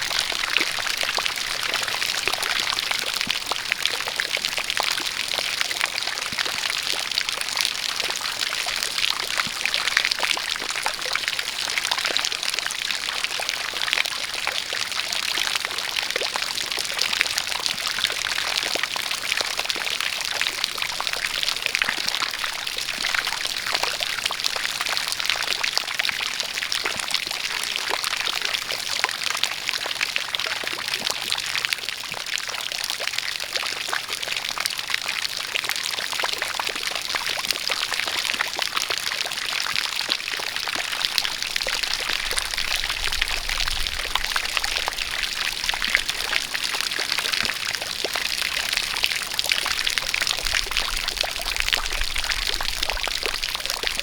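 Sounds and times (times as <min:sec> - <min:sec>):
rain patter: 0:00.0 - 0:54.0
water pouring from a spout: 0:00.0 - 0:54.0.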